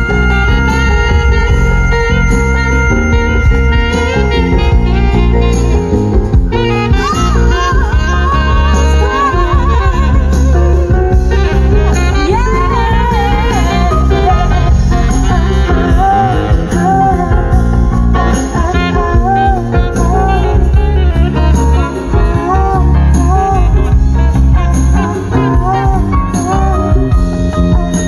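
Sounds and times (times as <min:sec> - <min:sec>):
song with heavy bass: 0:00.0 - 0:28.0.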